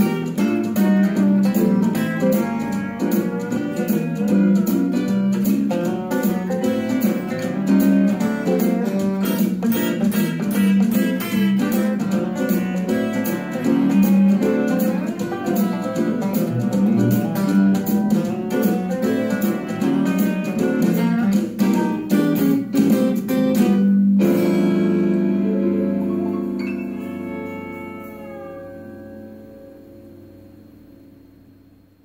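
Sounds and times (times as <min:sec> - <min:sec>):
western swing band instrumental: 0:00.0 - 0:29.6
electric guitar lead line: 0:00.0 - 0:31.3.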